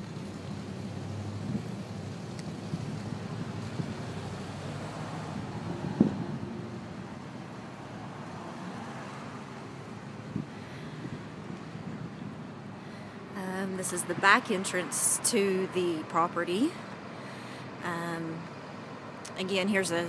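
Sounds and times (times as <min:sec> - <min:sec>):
road traffic hum: 0:00.0 - 0:20.0.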